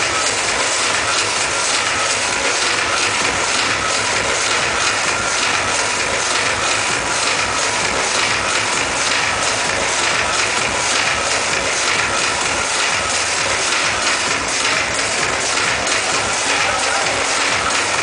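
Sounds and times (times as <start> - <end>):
distorted loud dance music: 0.0 - 18.0.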